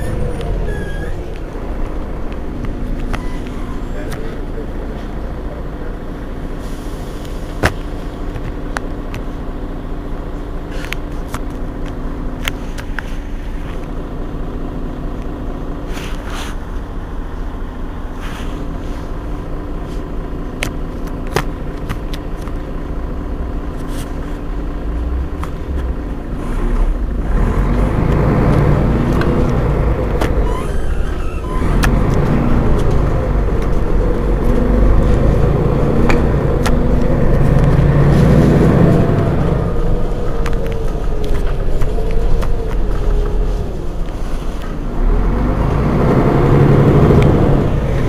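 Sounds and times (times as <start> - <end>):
bus engine idling: 0.0 - 48.0.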